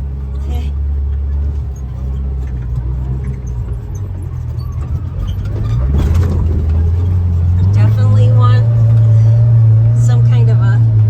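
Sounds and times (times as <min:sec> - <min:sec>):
vehicle engine drone from inside cab: 0:00.0 - 0:11.0.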